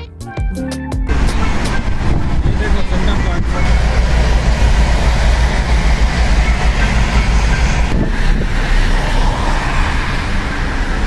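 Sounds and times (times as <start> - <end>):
vehicle road noise rumble: 1.1 - 11.0.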